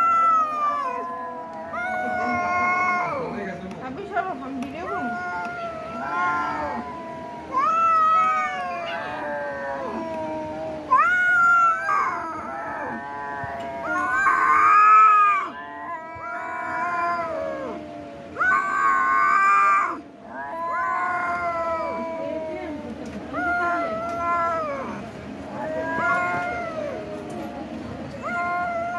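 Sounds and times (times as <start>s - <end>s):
cats meowing and yowling: 0.0s - 28.9s.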